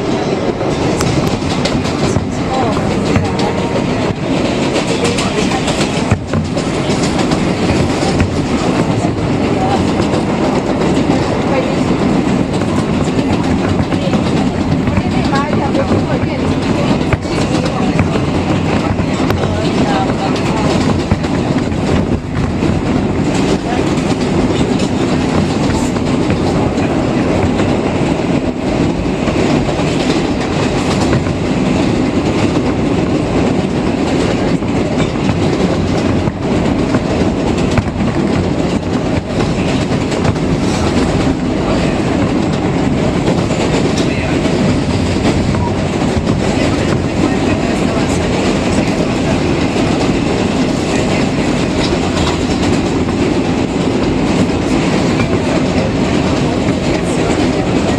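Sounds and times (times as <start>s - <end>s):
rails clickety-clack: 0.0s - 57.9s
subway train rumbling: 0.0s - 57.9s.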